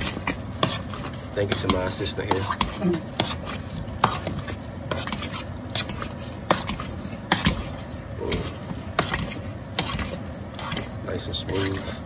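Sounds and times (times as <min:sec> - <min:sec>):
potato masher mashing potatoes: 0:00.0 - 0:12.0.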